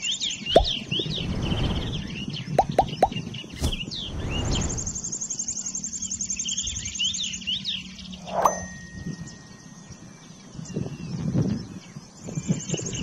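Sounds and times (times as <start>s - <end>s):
birds whistling descending notes: 0.0s - 13.0s.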